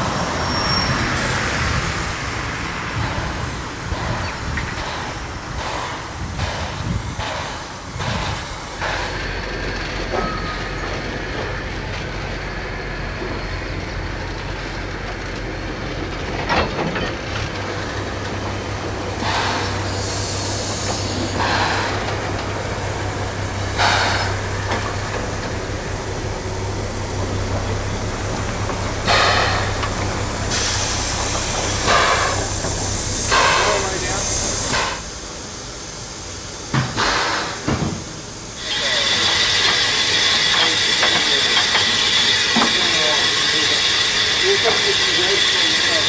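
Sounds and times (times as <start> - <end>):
steam hissing blasts: 0.0 - 9.8, 17.6 - 46.0
steam locomotive rumbling: 0.0 - 46.0.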